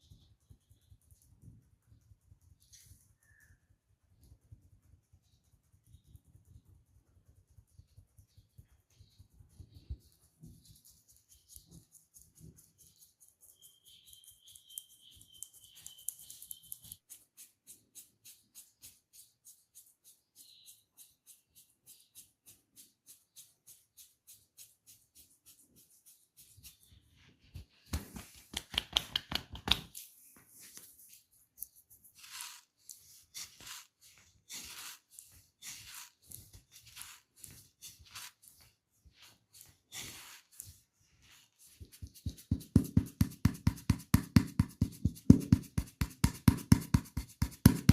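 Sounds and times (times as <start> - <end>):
hands rubbing and scratching head: 0.0 - 47.9.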